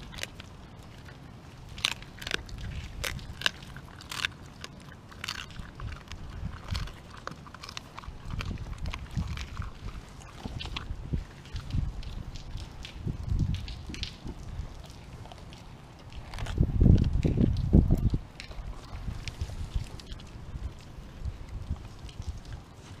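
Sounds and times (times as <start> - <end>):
dog chewing bone: 0.0 - 23.0.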